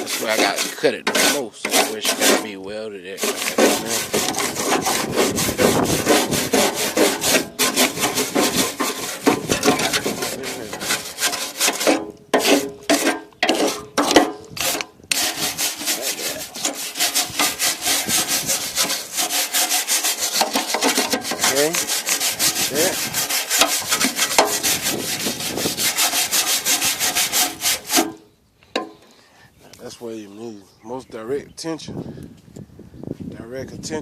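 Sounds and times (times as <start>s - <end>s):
scraping rust off metal: 0.0s - 29.1s.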